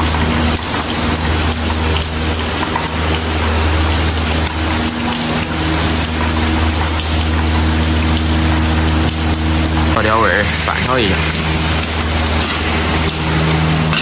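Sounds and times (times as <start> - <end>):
constant hiss: 0.0 - 14.0
low mechanical hum: 0.0 - 14.0.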